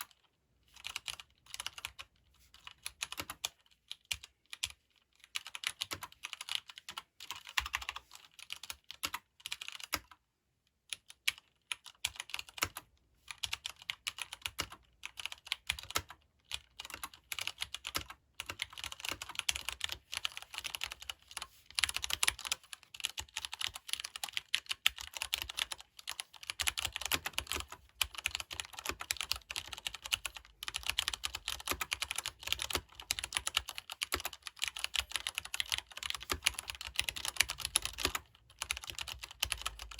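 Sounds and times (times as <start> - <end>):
typing on mechanical keyboard: 0.0 - 10.2, 10.9 - 39.9.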